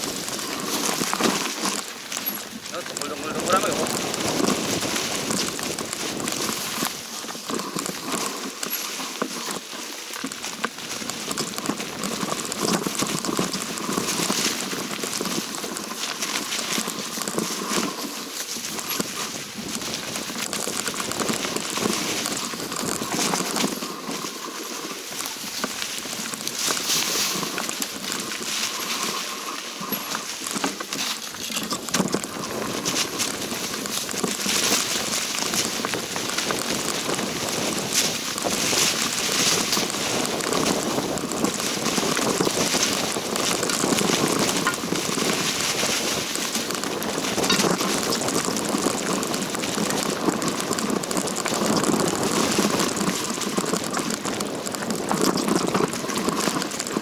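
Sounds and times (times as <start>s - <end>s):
footsteps crunching on forest trail: 0.0s - 57.0s.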